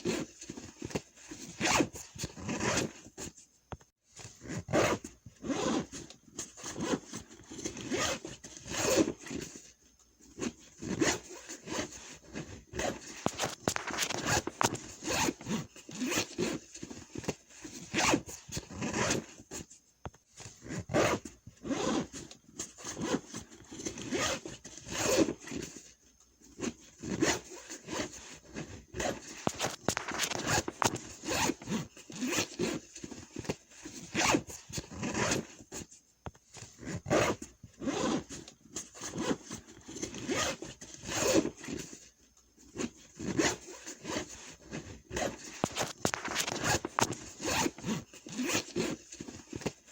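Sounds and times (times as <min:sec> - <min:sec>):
zipper rasping back and forth: 0:00.0 - 0:03.4, 0:04.2 - 0:49.9.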